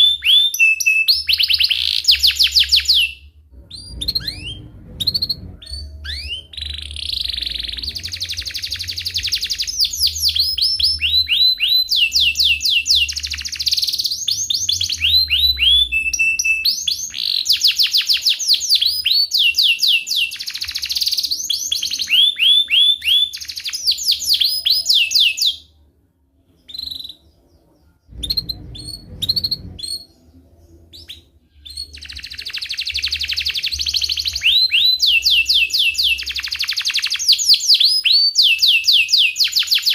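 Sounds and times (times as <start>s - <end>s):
canary singing trills and chirps: 0.0s - 39.9s.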